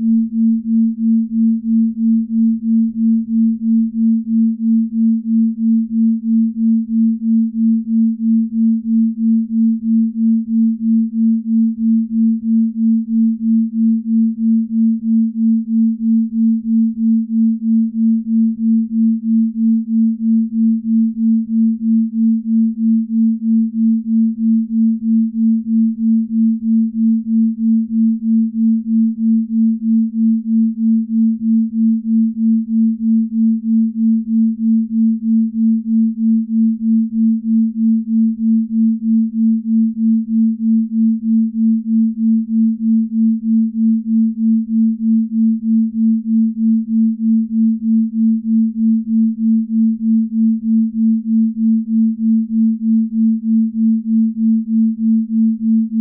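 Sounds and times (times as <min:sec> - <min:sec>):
pulsing low pure tone: 0:00.0 - 0:56.0.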